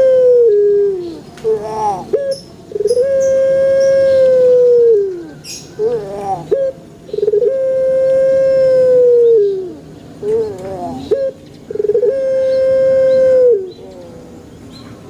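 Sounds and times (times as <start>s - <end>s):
dove cooing: 0.0s - 14.5s.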